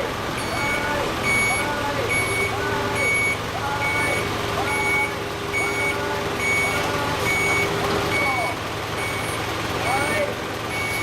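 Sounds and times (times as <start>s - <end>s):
engine hum: 0.0s - 11.0s
reversing alarm beeping: 0.3s - 11.0s
warning tone sliding up and down: 0.4s - 10.1s, 10.7s - 11.0s.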